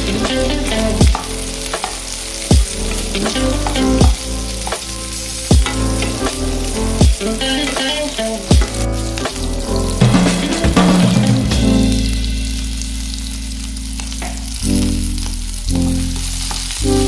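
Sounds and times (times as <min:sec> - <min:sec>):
background music with low beat: 0:00.0 - 0:17.0
food sizzling in hot oil: 0:00.0 - 0:17.0.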